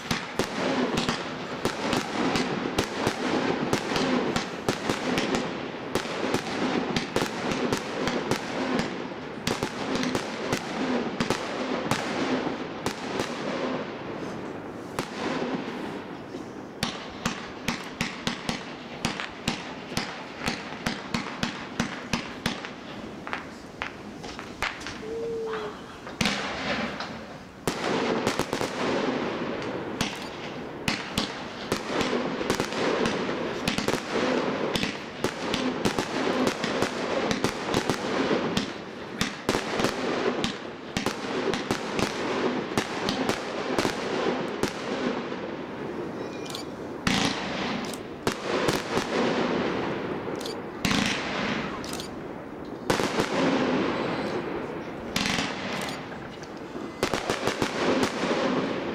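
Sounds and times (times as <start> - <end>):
firework shots firing: 0.0 - 25.2, 26.1 - 58.9.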